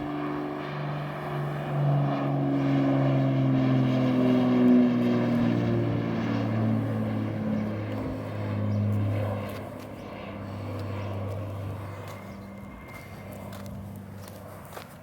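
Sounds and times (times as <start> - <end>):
propeller plane droning overhead: 0.0 - 15.0.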